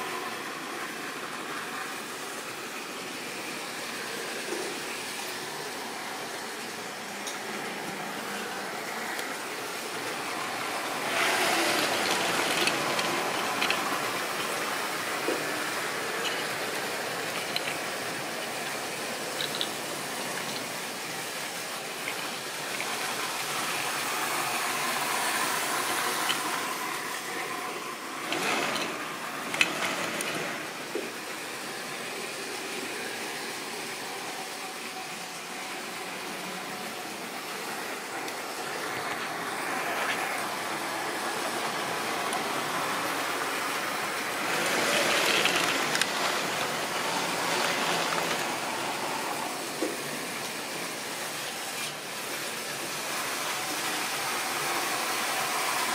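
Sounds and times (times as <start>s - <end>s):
model train motors whirring: 0.0s - 55.9s
wheels running on rail: 0.0s - 55.9s.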